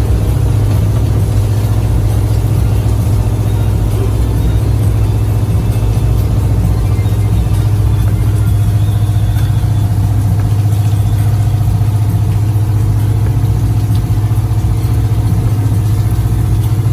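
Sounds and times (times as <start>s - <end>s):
motor boat engine drone: 0.0s - 16.9s.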